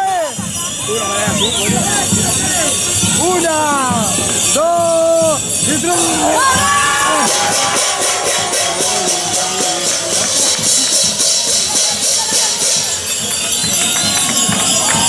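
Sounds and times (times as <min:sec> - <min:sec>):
festive music: 0:00.0 - 0:15.0
tambourine jingle: 0:00.0 - 0:15.0
voices: 0:00.0 - 0:15.0.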